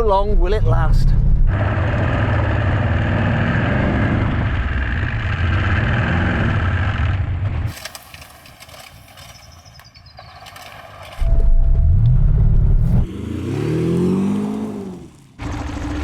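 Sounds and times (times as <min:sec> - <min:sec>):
car engine under load: 0:01.3 - 0:16.0.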